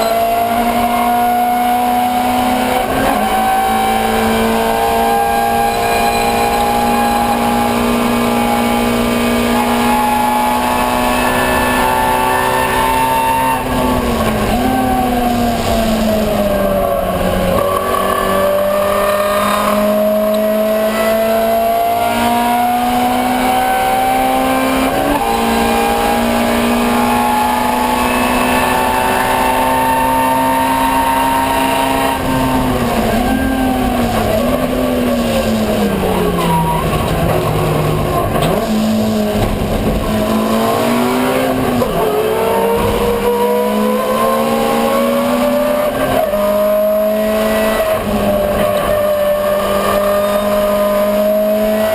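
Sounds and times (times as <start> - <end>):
race car engine at high revs: 0.0 - 51.9.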